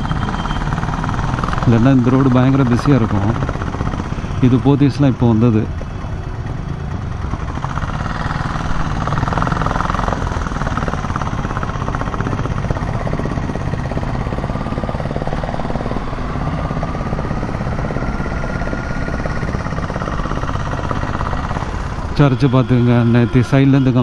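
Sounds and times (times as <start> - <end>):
faint rising whine: 0.0 - 24.0
motorcycle engine running: 0.0 - 24.0.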